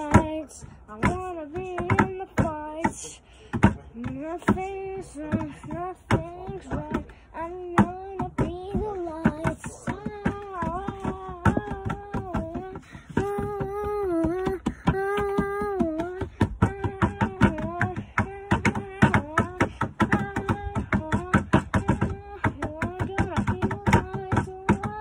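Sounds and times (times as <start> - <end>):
person singing: 0.0 - 25.0.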